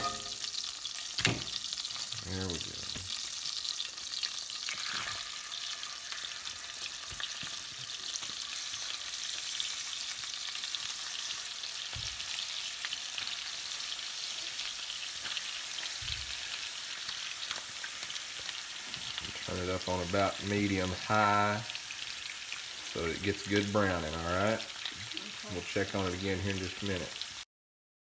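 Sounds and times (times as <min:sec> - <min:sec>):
chicken sizzling in a pan: 0:00.0 - 0:27.5.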